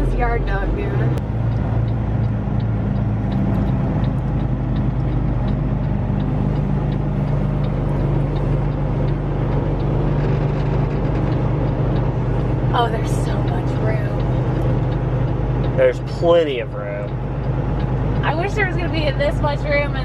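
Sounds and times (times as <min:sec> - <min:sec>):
diesel truck engine droning: 0:00.0 - 0:20.0
faint ticking: 0:00.0 - 0:20.0.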